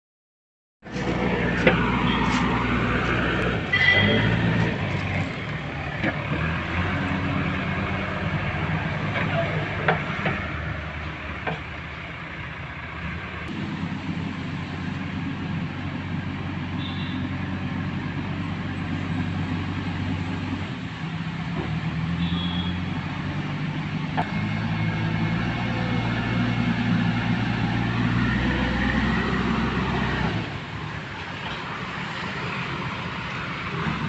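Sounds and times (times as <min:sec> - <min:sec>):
diesel engine running: 0:00.8 - 0:34.0.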